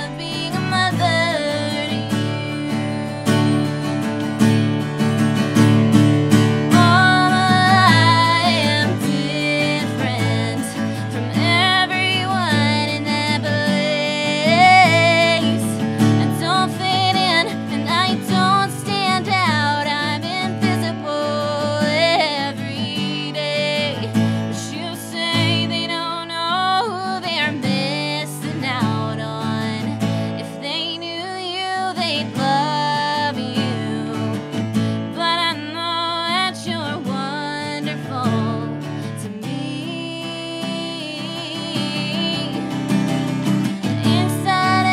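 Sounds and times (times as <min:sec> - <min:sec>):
woman singing: 0:00.0 - 0:05.2, 0:06.3 - 0:44.9
strummed acoustic guitar: 0:00.0 - 0:44.9.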